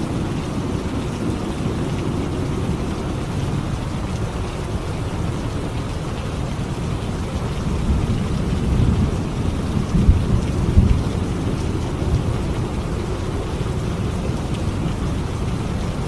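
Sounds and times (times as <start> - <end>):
low rumble of thunder: 0.0 - 16.0
steady rain: 0.0 - 16.0.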